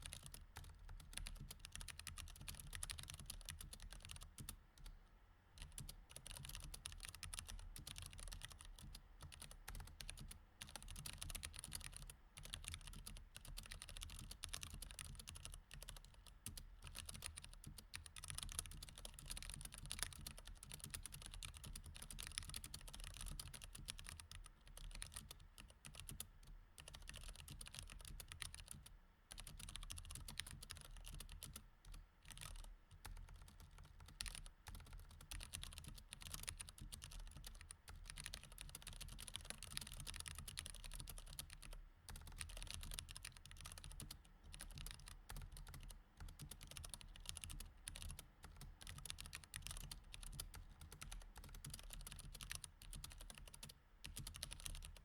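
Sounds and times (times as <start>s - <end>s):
mechanical keyboard typing: 0.0s - 4.9s, 5.6s - 55.0s.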